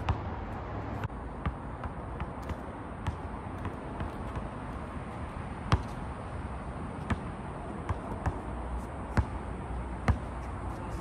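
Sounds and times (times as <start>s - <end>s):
basketball bouncing on asphalt: 0.0s - 11.0s
steady background noise: 0.0s - 11.0s.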